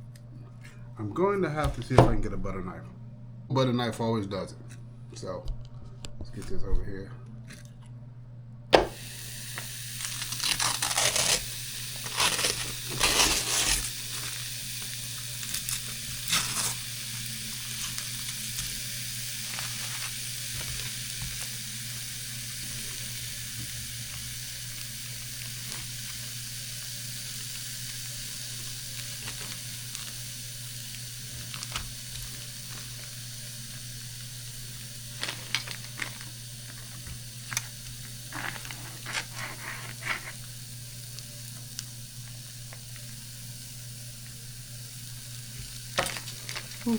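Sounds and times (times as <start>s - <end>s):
patty sizzling on a grill: 8.8s - 46.9s.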